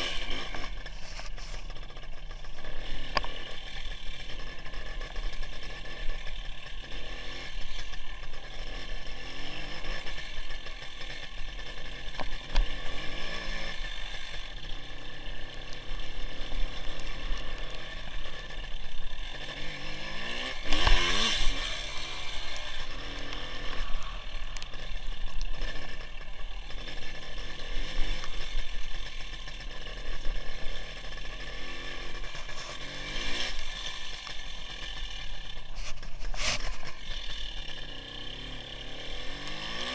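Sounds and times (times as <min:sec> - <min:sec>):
motorcycle two-stroke engine revving: 0:00.0 - 0:39.9.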